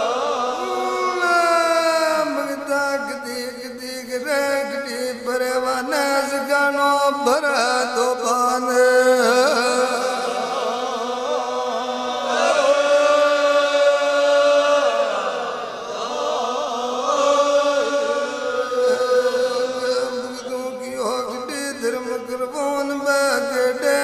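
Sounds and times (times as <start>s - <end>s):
person chanting long held notes: 0.0s - 24.0s.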